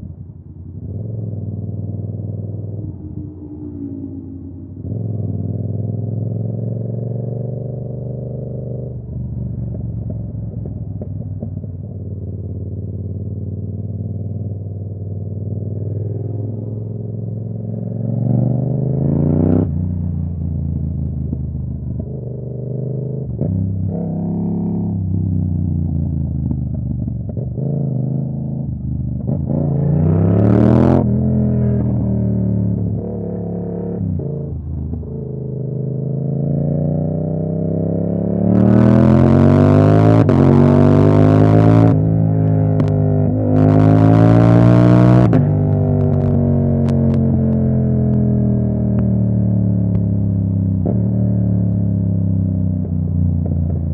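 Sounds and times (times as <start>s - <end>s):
motorcycle engine revving: 0.8s - 53.9s.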